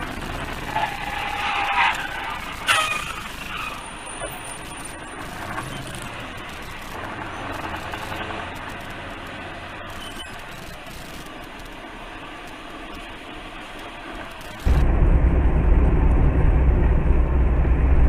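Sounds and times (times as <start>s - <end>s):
vehicle and road noise: 0.0s - 18.0s.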